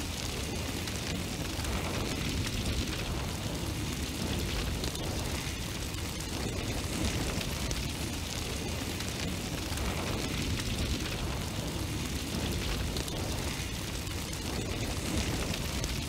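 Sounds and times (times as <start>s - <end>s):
large fire roaring and crackling: 0.0s - 16.0s.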